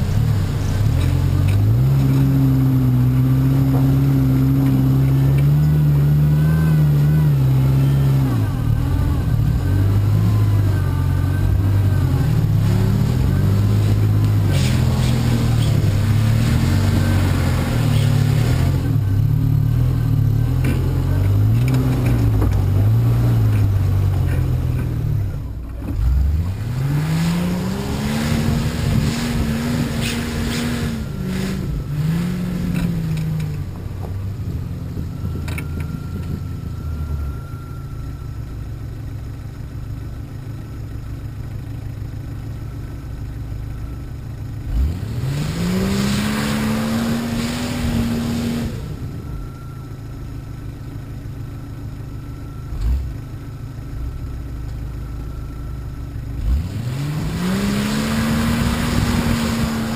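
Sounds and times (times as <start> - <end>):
off-road vehicle engine revving: 0.0 - 38.0, 43.6 - 50.1, 52.5 - 54.4, 56.2 - 59.9.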